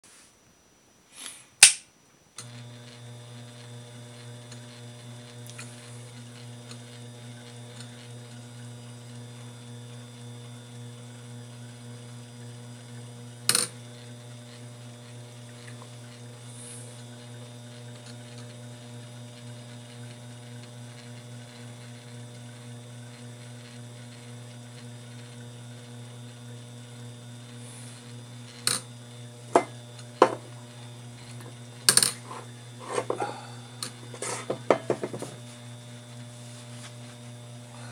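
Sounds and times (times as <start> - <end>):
spindle motor humming: 2.4 - 37.9.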